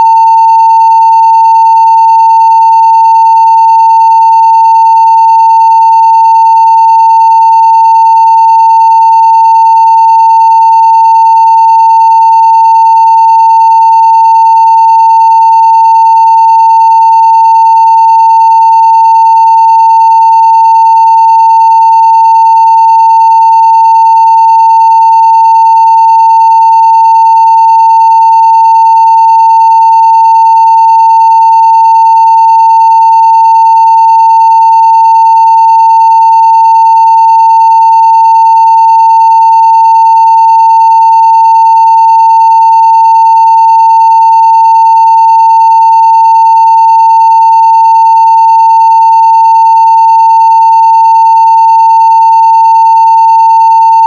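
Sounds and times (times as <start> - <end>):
sine-wave test tone: 0.0 - 54.0.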